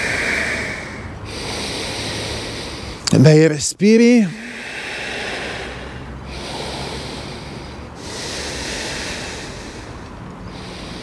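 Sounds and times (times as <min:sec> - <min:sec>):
deep breathing through nose: 0:00.0 - 0:03.1, 0:04.3 - 0:11.0.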